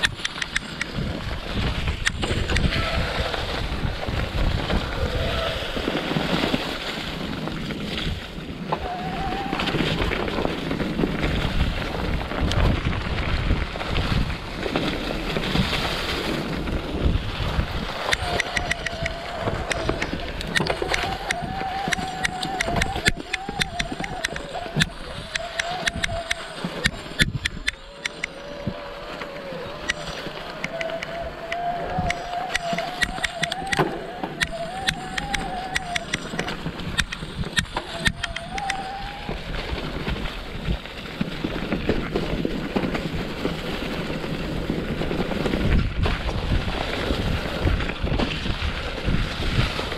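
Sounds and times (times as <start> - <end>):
bike clicks and rattles: 0.0 - 49.9
tyres rustling through leaves: 0.0 - 49.9
wind noise on microphone: 0.0 - 49.9.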